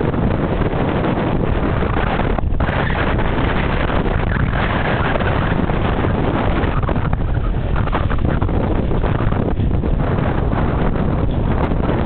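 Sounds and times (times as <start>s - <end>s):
choppy water washing: 0.0s - 12.0s
wind buffeting microphone: 0.0s - 12.0s.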